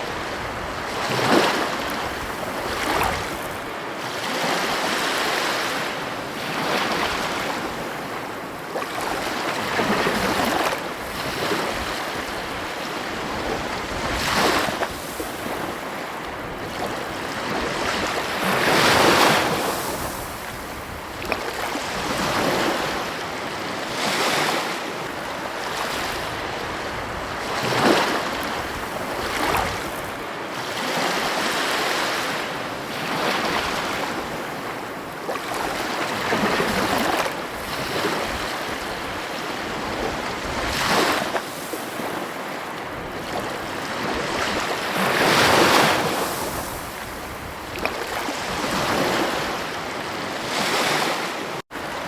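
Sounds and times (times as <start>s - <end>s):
wind on microphone: 0.0s - 3.8s, 9.0s - 52.0s
ocean waves breaking: 0.0s - 52.0s.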